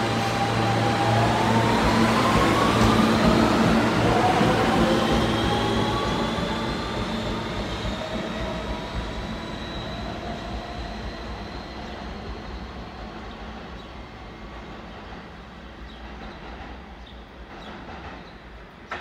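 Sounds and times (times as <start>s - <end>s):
subway train rumble: 0.0s - 19.0s
thin high train tone: 0.0s - 19.0s.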